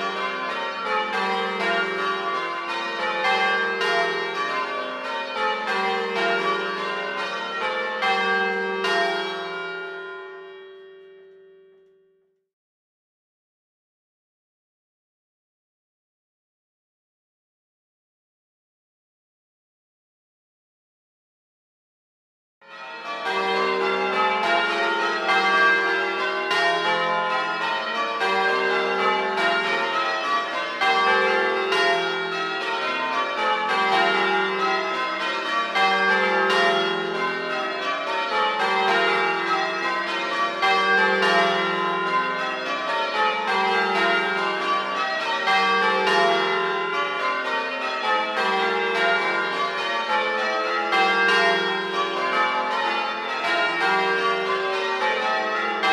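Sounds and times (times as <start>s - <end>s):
church bells ringing: 0.0s - 12.1s, 22.6s - 55.9s.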